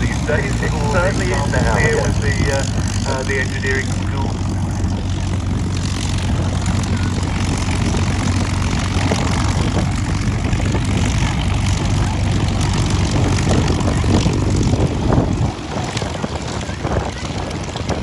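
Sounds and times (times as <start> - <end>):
aircraft engine droning: 0.0 - 18.0.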